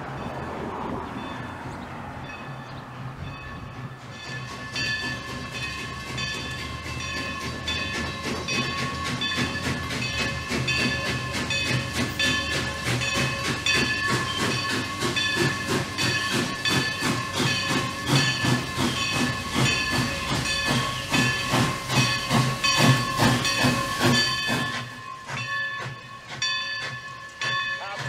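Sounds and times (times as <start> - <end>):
steam locomotive chuffing: 0.0 - 28.0
steam hiss: 4.2 - 28.0.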